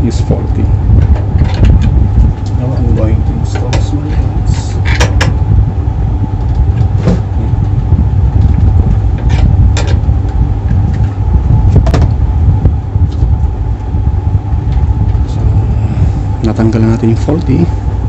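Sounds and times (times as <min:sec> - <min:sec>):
faint steady hum: 0:00.0 - 0:18.0
low rumble: 0:00.0 - 0:18.0.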